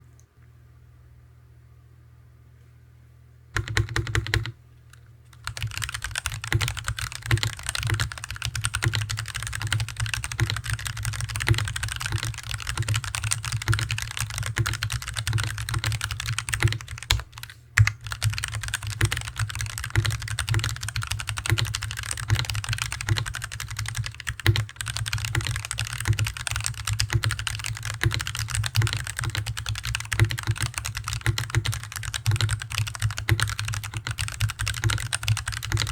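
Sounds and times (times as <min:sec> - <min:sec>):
fast typing on mechanical keyboard: 0:03.6 - 0:04.6, 0:05.3 - 0:35.9.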